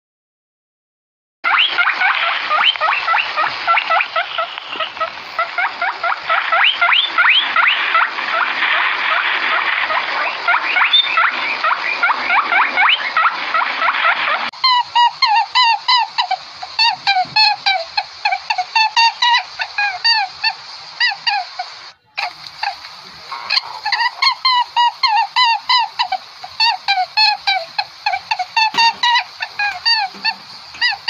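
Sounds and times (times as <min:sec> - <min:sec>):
small animals squeaking: 0:01.5 - 0:31.0.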